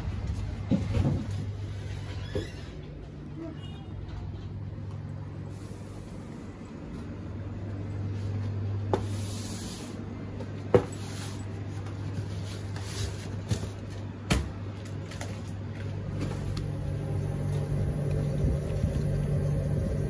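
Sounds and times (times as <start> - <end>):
freezer hum: 0.0 - 20.0.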